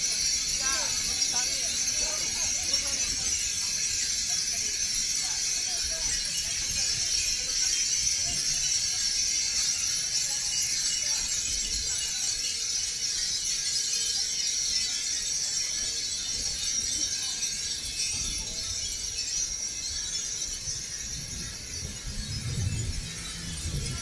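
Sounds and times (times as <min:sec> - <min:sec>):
wind chimes tinkling: 0:00.0 - 0:24.0.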